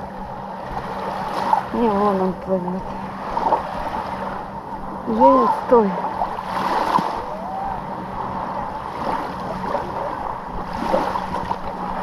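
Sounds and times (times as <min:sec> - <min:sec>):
small waves on shore: 0:00.0 - 0:12.0.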